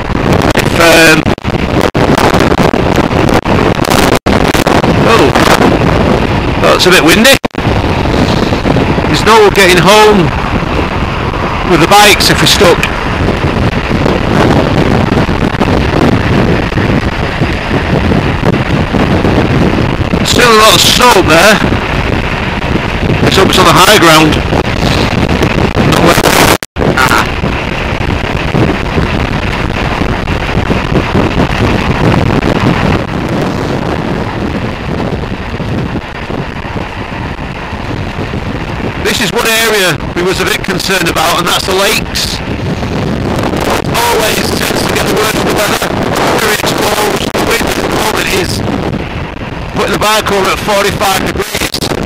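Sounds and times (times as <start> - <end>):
motorcycle engine and road rumble: 0.0 - 52.0
wind buffeting microphone: 0.0 - 52.0.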